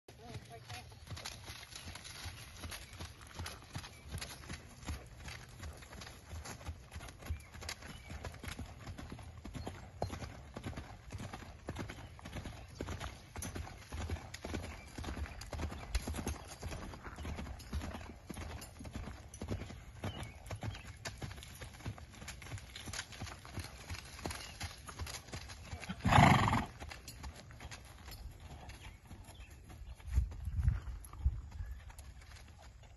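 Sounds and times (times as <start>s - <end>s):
horse hooves cantering on dirt: 0.1s - 32.9s.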